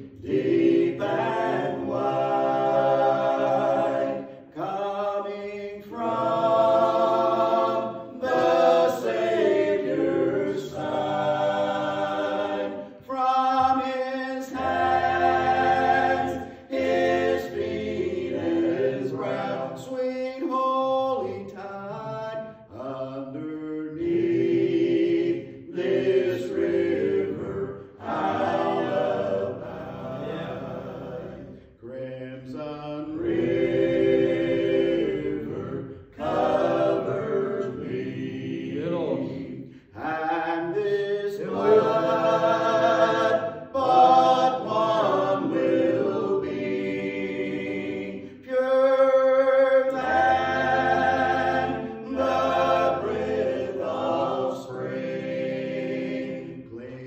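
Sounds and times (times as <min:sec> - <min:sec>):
vocal quartet singing a hymn: 0:00.0 - 0:57.0.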